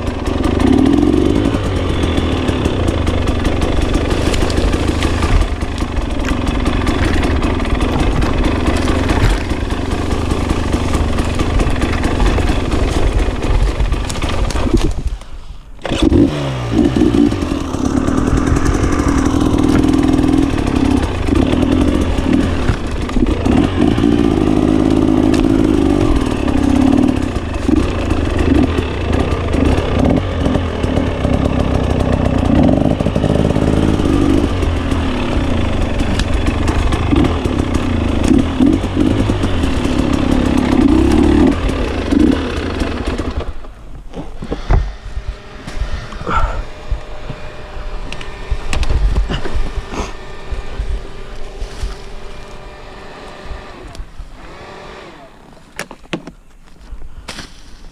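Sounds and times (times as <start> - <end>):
motorcycle engine revving: 0.0 - 15.2, 15.8 - 55.8.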